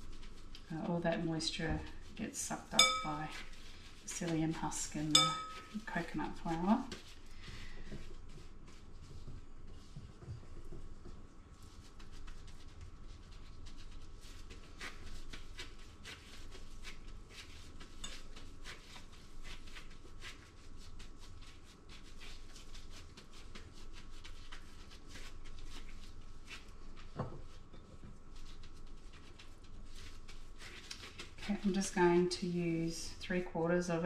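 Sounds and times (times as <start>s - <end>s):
plastic gloves rustling: 0.0s - 34.0s.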